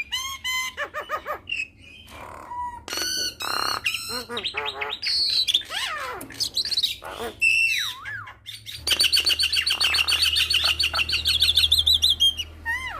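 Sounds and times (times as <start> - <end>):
bird chatter of high notes: 0.0 - 12.9
bird singing varied song: 0.0 - 12.9.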